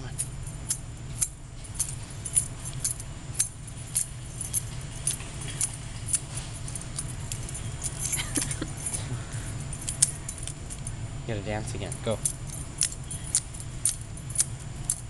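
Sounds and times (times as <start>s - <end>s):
keys jangling: 0.0s - 11.0s, 11.7s - 15.0s.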